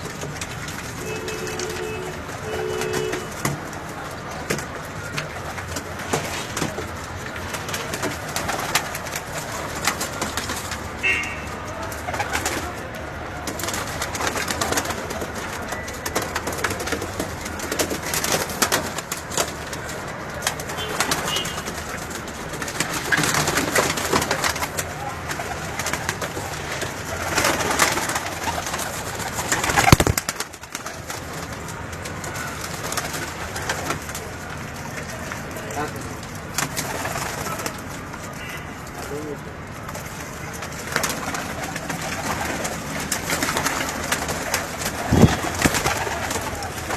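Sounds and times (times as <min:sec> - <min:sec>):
rustling and scratching: 0:00.0 - 0:11.0, 0:11.9 - 0:46.9.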